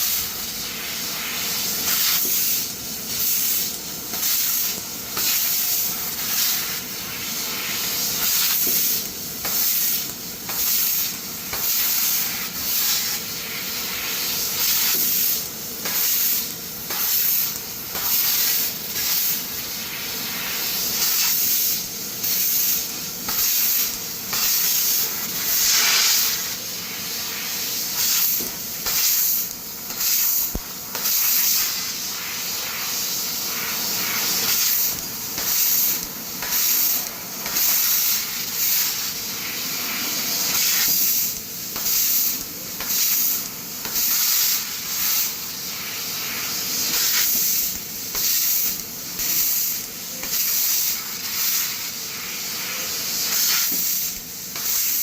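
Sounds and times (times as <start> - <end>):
laser cutter hissing: 0.0 - 55.0.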